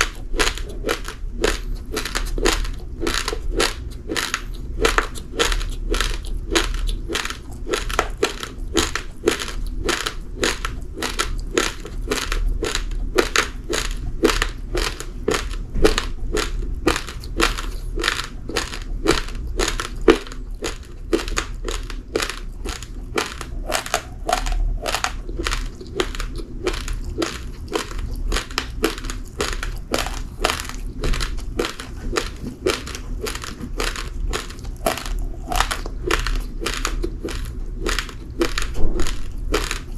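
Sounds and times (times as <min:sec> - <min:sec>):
chewing raw rice crunches: 0:00.0 - 0:39.9.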